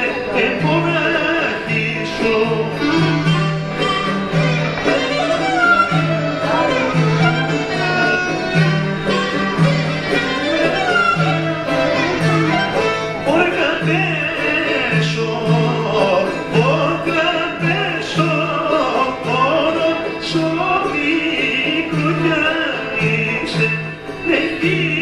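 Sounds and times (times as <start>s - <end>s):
person singing: 0.0s - 25.0s
violin: 0.0s - 25.0s.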